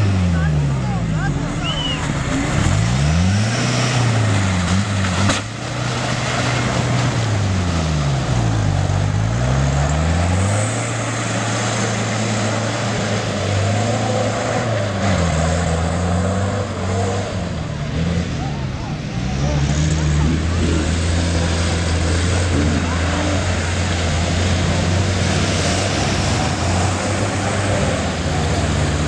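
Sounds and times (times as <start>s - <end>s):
off-road engines revving: 0.0s - 29.0s.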